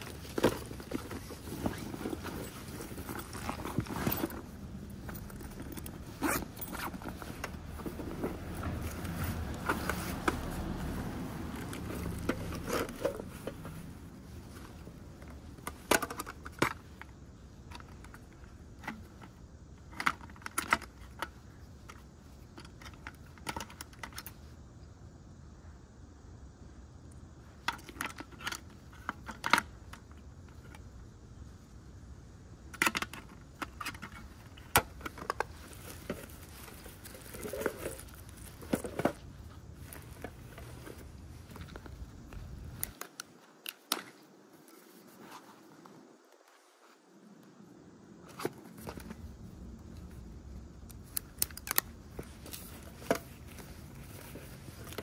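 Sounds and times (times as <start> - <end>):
hands rustling a pouch: 0.0 - 23.3, 33.2 - 47.6, 48.2 - 55.0.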